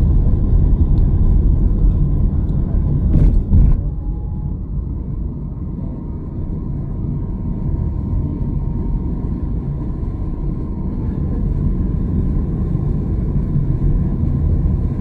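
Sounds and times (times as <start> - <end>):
car road and engine rumble: 0.0 - 15.0
faint steady whine: 0.0 - 15.0.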